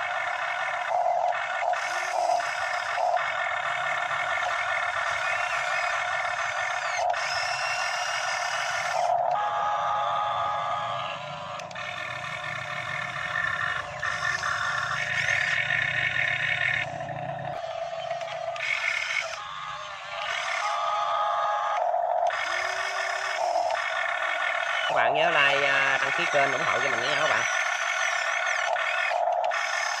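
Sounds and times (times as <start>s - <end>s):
model excavator motor whine: 0.0s - 30.0s.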